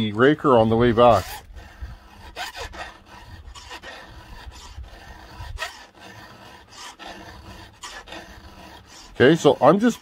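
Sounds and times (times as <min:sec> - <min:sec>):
file rasping on saw chain: 0:00.0 - 0:10.0.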